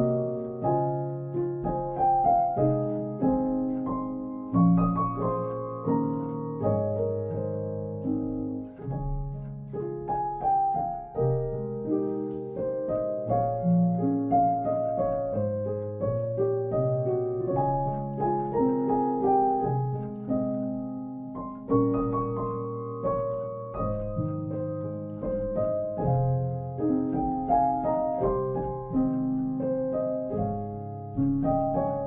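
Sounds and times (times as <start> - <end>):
gentle slow piano music: 0.0 - 32.0.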